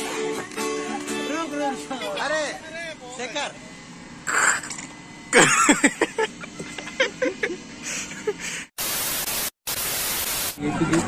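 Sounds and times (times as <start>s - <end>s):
loud static hiss: 1.0s - 10.8s.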